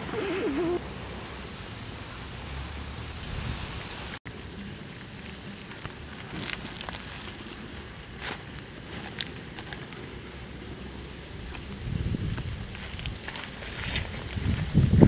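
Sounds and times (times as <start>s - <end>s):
snails sizzling on charcoal fire: 0.0s - 15.0s.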